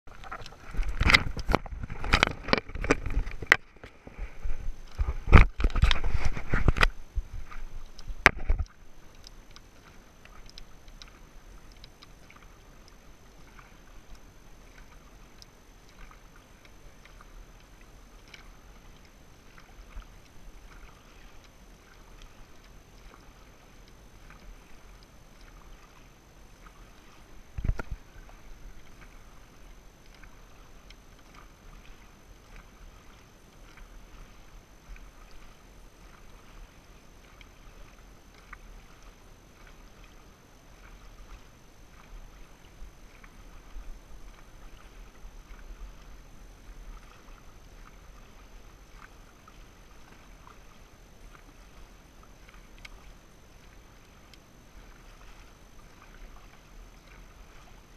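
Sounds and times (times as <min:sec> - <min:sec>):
water moving along hull: 0:00.0 - 0:57.9
paddles splashing in water: 0:00.1 - 0:57.9.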